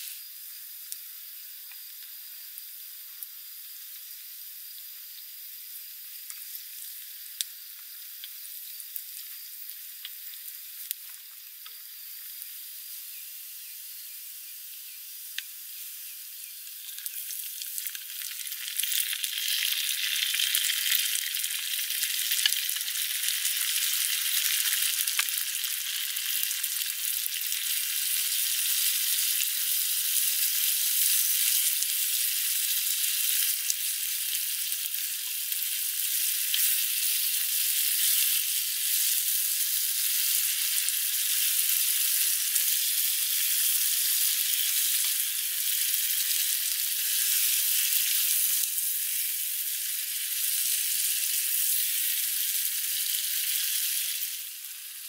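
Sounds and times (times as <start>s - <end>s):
vegetables sizzling in frying pan: 0.0s - 55.0s.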